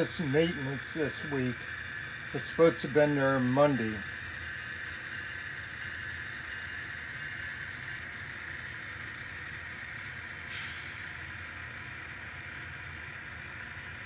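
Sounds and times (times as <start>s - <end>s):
bright hiss: 0.0s - 12.4s
model train hum and whir: 0.0s - 14.0s.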